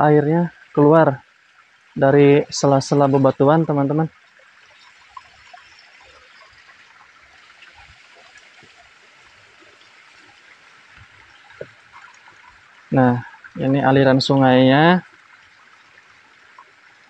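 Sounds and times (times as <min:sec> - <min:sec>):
spring water trickling over rocks: 0:00.0 - 0:17.0.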